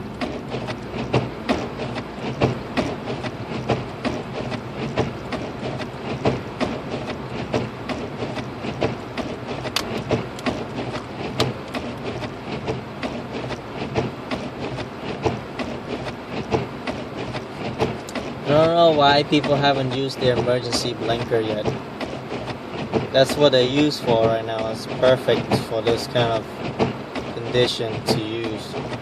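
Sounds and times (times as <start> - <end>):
engine and road hum: 0.0 - 29.0
rapid irregular clicking and knocking: 0.0 - 29.0.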